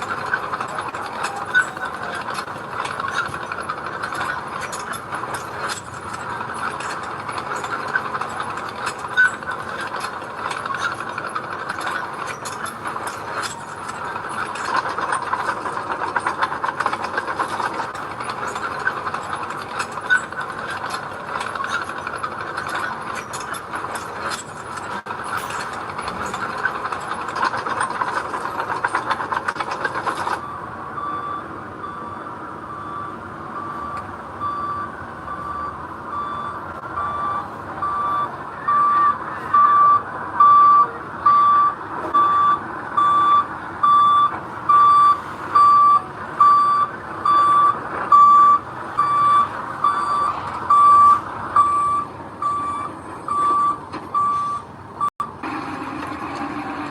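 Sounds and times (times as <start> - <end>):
reversing alarm beeping: 0.0 - 24.4, 30.0 - 55.4
engine noise: 0.0 - 56.9
machinery metallic clattering: 0.0 - 56.9.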